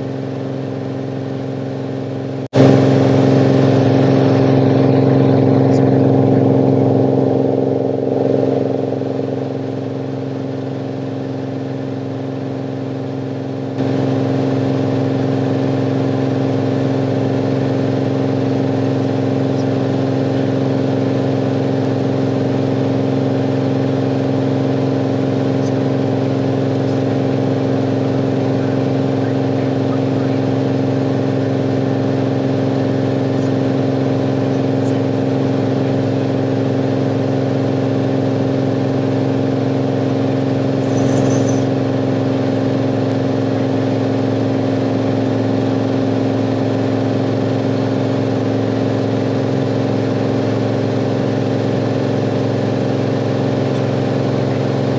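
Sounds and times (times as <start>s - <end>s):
aircraft engine and propeller droning: 0.0s - 54.9s.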